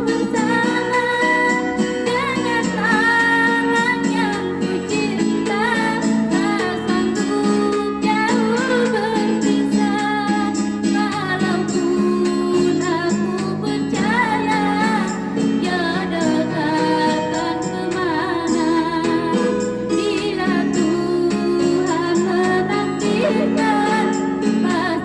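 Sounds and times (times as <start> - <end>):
girl singing with vibrato: 0.0 - 25.0
plucked guitar: 0.0 - 25.0.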